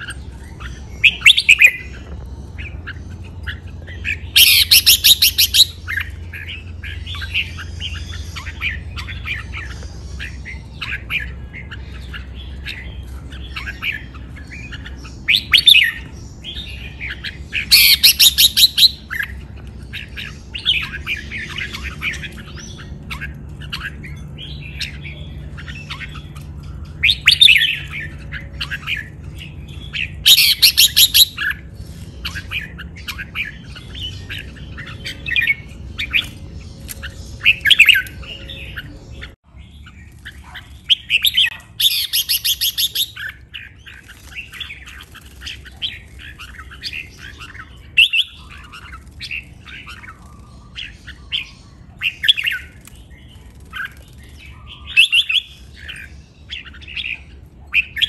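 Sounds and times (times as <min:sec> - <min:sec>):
birds chirping and whistling: 0:00.0 - 0:58.0.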